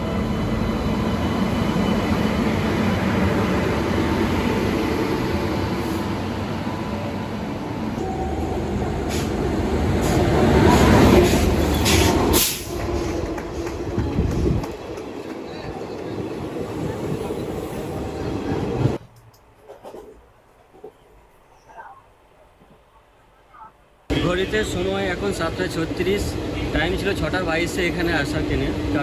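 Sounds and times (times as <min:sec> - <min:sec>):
train rumbling along track: 0:00.0 - 0:22.0, 0:24.1 - 0:29.0.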